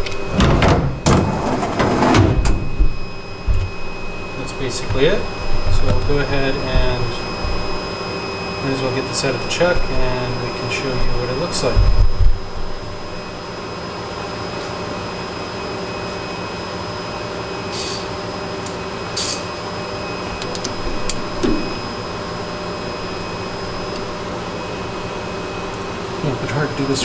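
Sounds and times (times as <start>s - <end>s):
machine electrical hum: 0.0s - 27.0s.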